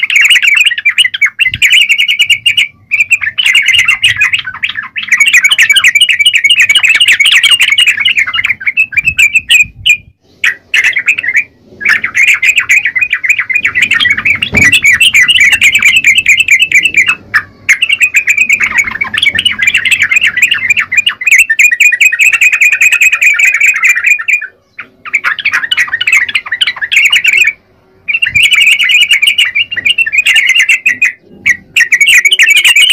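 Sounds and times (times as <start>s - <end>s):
bird rapid chattering song: 0.0s - 32.9s.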